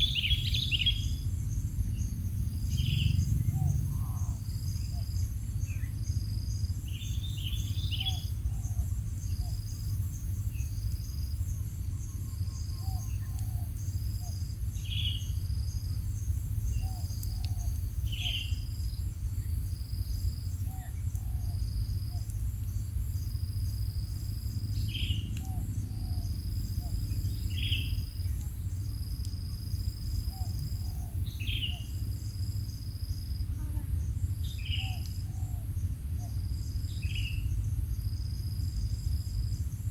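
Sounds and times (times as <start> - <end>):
bird chirping: 0.0 - 23.4, 24.0 - 33.4, 34.0 - 39.9
insects trilling: 0.0 - 39.9
steady low rumble: 0.0 - 39.9.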